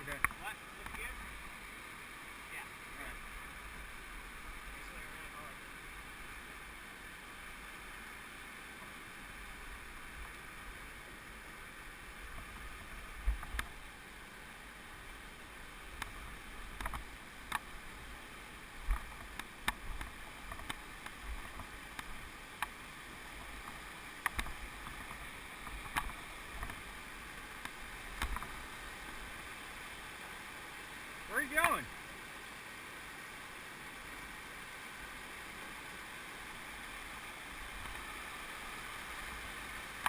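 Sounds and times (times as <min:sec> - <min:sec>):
creek rushing: 0:00.0 - 0:40.0.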